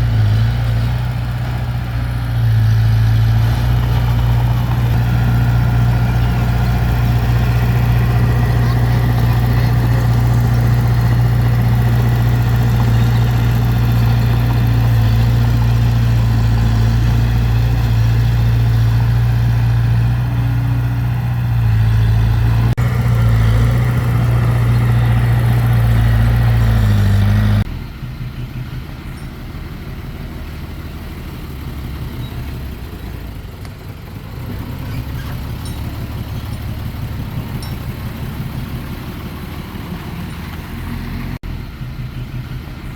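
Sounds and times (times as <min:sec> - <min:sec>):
heavy diesel engine droning: 0:00.0 - 0:42.9
rough engine rumble: 0:00.0 - 0:42.9.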